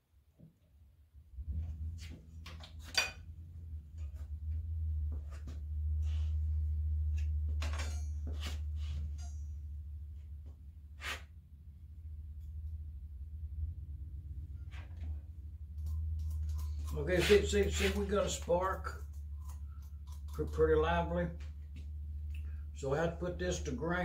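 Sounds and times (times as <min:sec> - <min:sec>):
low hum: 0:03.0 - 0:23.9.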